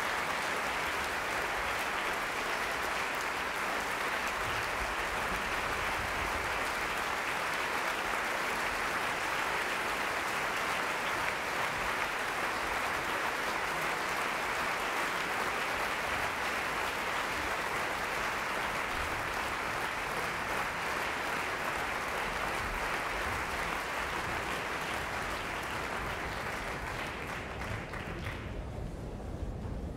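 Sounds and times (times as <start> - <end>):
audience applauding: 0.0 - 28.8.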